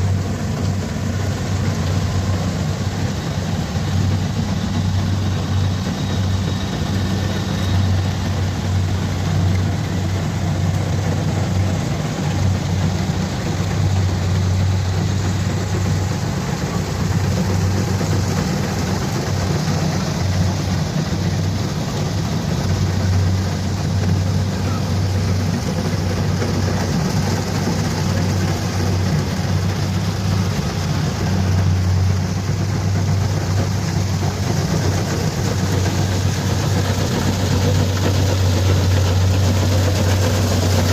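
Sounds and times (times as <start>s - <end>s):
combine harvester engine hum: 0.0s - 40.9s
machine noise: 0.0s - 40.9s.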